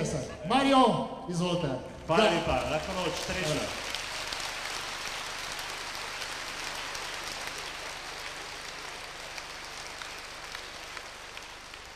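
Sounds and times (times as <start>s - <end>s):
audience applauding: 2.0s - 11.9s.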